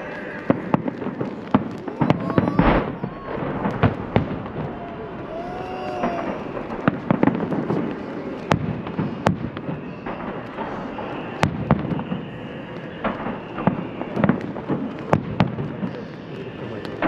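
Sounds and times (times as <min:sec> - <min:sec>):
firework cracks and bangs: 0:00.0 - 0:17.0
rumble of explosions: 0:00.0 - 0:17.0.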